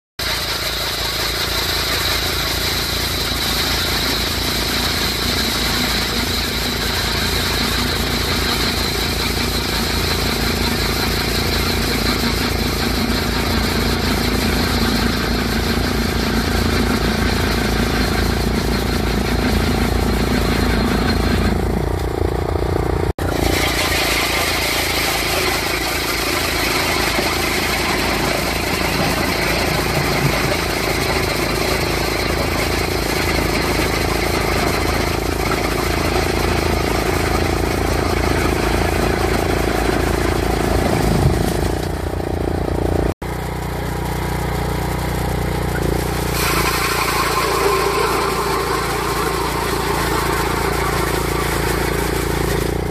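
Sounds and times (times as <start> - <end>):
auger boring through ice: 0.2 - 52.9
ice auger engine running: 0.2 - 52.9.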